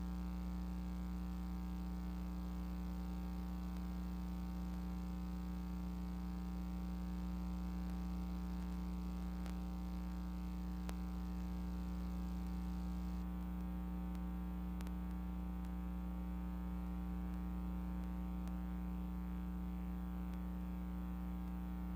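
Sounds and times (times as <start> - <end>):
electrical mains hum: 0.0 - 21.9
faint ticks: 0.6 - 21.9.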